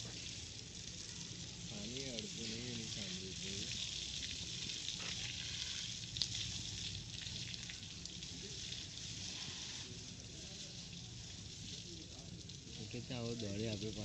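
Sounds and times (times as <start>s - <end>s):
hose spraying water: 0.0s - 14.0s.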